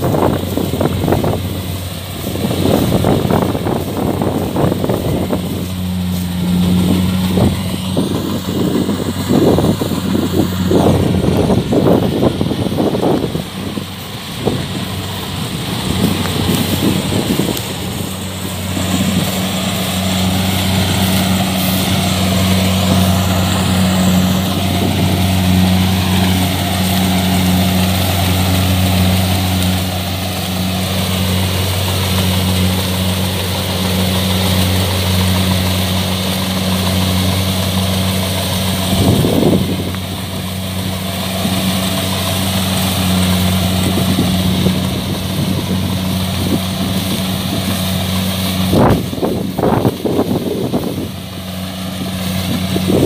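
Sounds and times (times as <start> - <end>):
diesel engine droning: 0.0 - 53.0.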